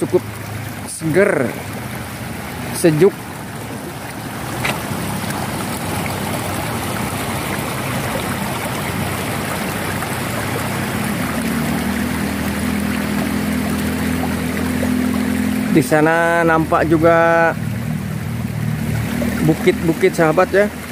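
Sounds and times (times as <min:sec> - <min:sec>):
water rushing in a channel: 0:00.0 - 0:20.9.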